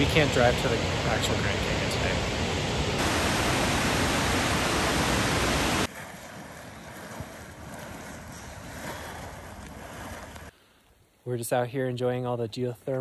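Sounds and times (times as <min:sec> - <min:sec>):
rushing water: 0:00.0 - 0:10.5.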